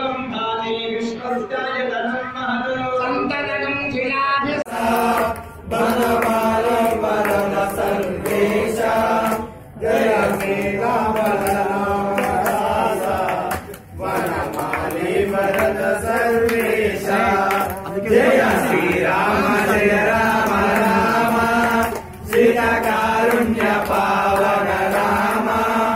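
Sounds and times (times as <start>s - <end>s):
men chanting a hymn: 4.6s - 25.9s.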